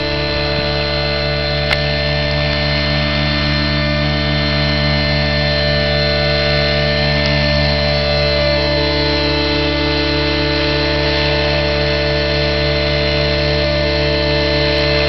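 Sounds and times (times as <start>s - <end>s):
model helicopter engine and rotors: 0.0s - 15.0s.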